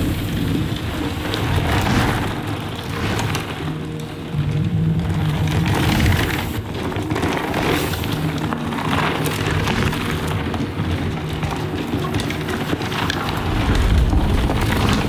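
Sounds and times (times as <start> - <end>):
bike tyres crunching on trail: 0.0 - 15.0.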